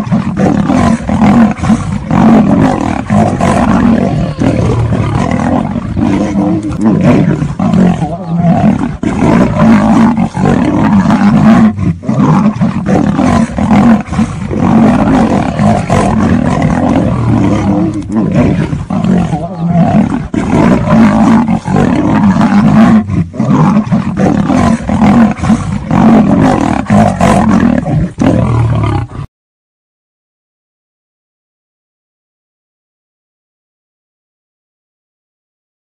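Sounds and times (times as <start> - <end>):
lion roaring: 0.0 - 29.3
tiger roaring: 0.0 - 29.3.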